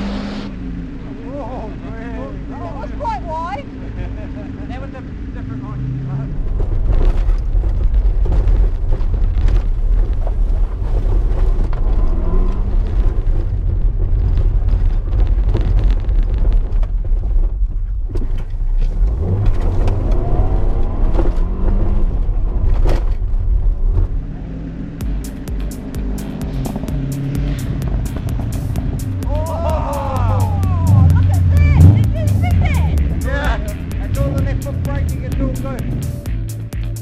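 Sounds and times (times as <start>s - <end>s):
car engine revving: 0.0s - 15.6s, 18.4s - 37.0s.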